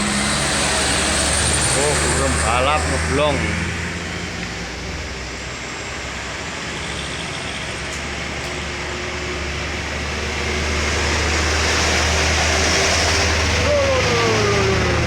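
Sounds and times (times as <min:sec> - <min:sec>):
heavy vehicle engine droning: 0:00.0 - 0:15.0
vehicle rolling noise: 0:00.0 - 0:15.0.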